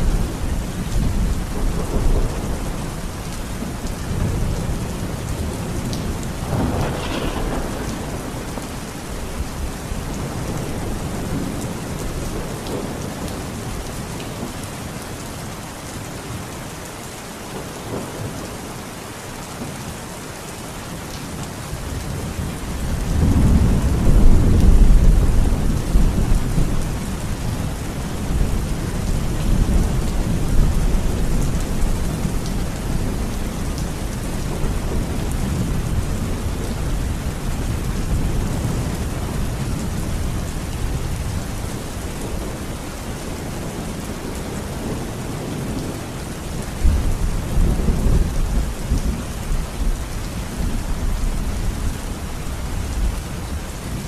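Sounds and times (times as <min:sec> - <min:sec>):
thunder rumbling: 0:00.0 - 0:13.7, 0:22.0 - 0:53.2
heavy rain: 0:00.0 - 0:54.0.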